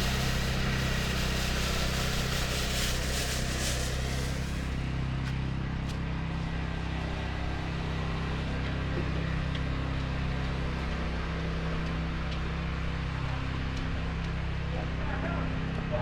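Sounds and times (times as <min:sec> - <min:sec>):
street noise hiss: 0:00.0 - 0:16.0
vehicle engine humming: 0:00.0 - 0:16.0.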